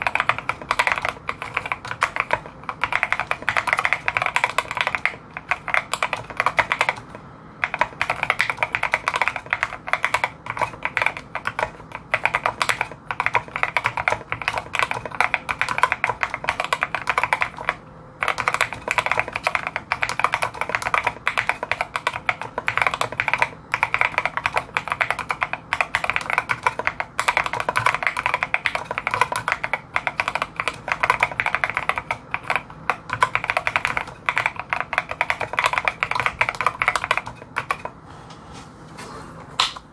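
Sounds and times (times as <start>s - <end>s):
typing on mechanical keyboard: 0.0s - 37.9s.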